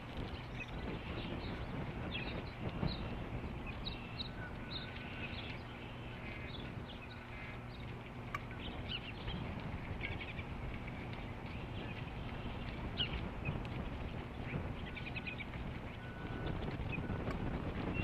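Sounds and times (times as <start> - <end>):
birds chirping: 0.0 - 18.0
wind buffeting microphone: 0.0 - 18.0.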